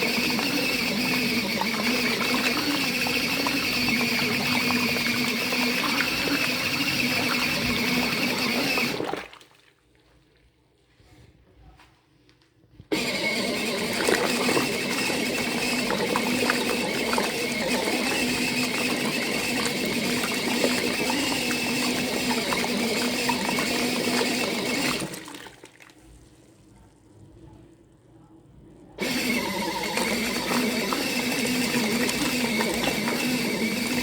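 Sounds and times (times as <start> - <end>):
washing machine motor hum: 0.0 - 9.4, 12.9 - 34.0
churning water: 0.0 - 10.0, 12.9 - 26.2, 29.0 - 34.0.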